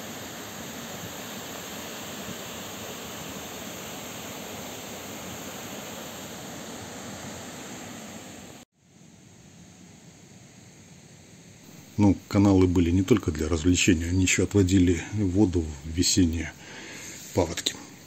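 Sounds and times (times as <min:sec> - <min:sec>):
quiet hiss: 0:00.0 - 0:18.0.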